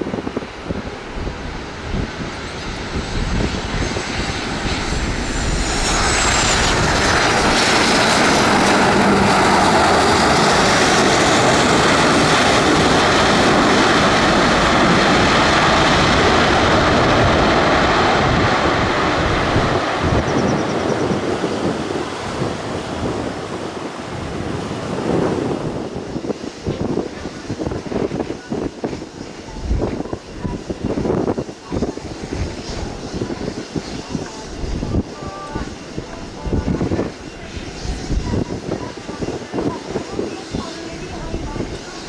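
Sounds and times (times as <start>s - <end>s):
airliner engines roaring: 0.0s - 42.0s.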